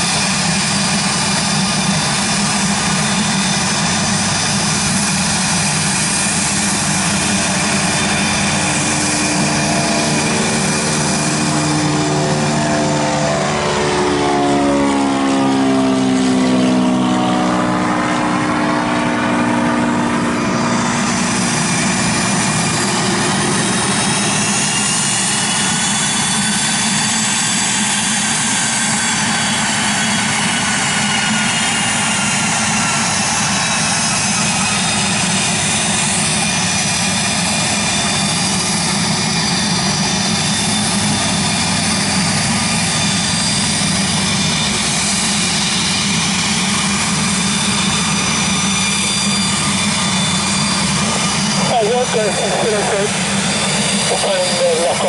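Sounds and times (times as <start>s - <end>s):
propeller plane droning overhead: 0.0s - 55.0s
small jet whining as it taxis: 0.0s - 55.0s.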